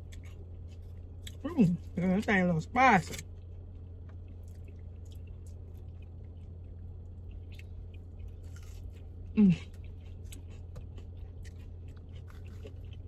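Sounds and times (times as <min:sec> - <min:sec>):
close-up chewing food: 0:00.0 - 0:02.0, 0:03.2 - 0:13.0
steady low hum: 0:00.0 - 0:13.0.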